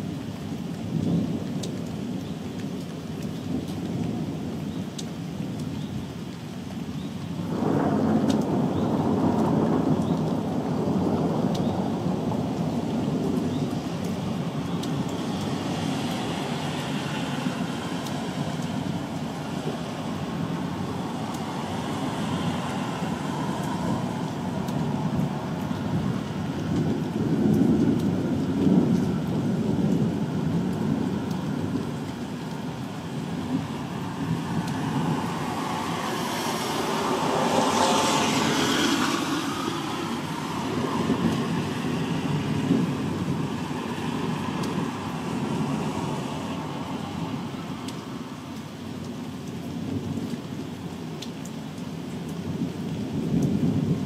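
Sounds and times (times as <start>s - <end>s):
distant thunder rumbling: 6.8s - 51.0s, 52.4s - 54.0s.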